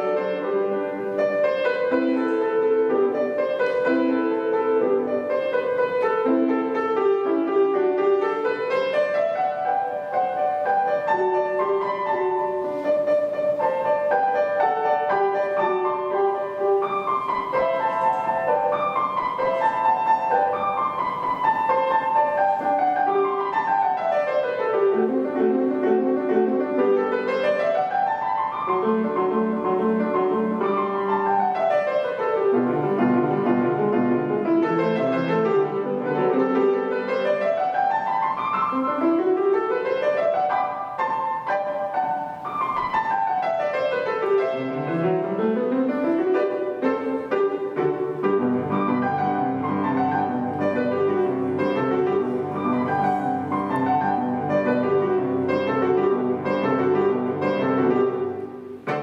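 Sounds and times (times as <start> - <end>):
solo classical piano piece: 0.0 - 59.0.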